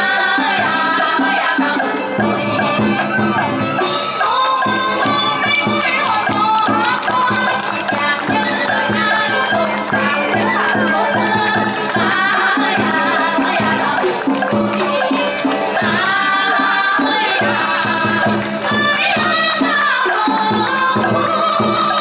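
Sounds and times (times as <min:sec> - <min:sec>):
drum strokes: 0:00.0 - 0:22.0
melodic folk instruments: 0:00.0 - 0:22.0.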